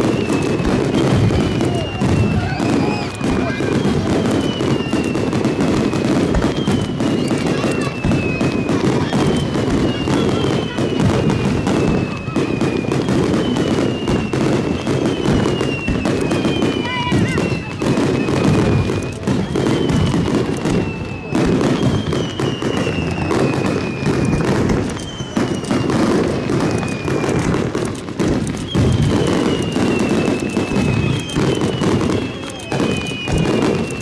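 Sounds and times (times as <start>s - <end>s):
fireworks booming and crackling: 0.0s - 34.0s
fireworks whistling: 0.0s - 34.0s.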